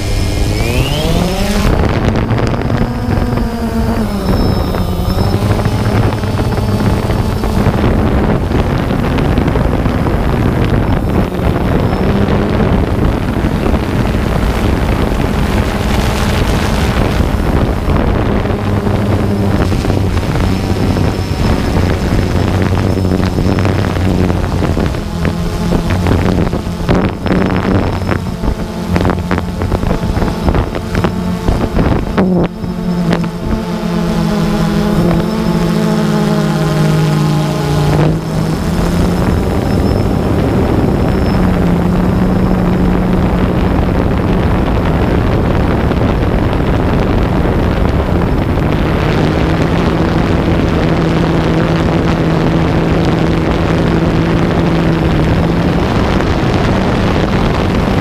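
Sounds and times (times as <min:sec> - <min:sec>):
drone propellers buzzing: 0:00.0 - 0:58.0
wind on microphone: 0:00.0 - 0:58.0.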